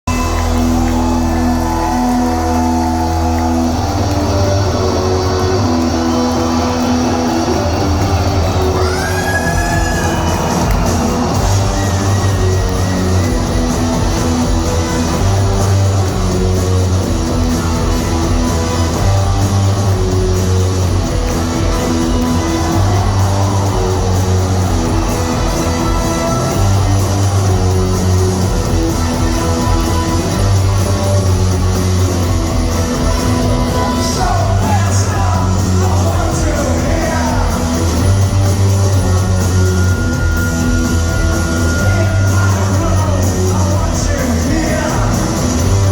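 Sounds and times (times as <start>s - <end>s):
live rock band playing: 0.1s - 45.9s.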